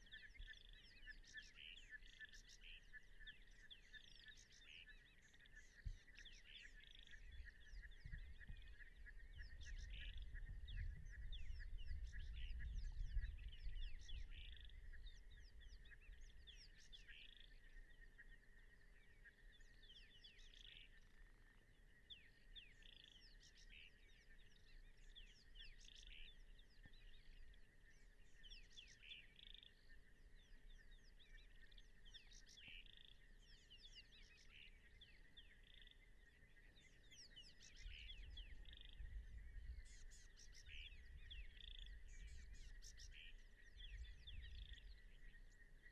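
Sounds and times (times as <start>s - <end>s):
high drone of frogs or insects: 0.0s - 45.9s.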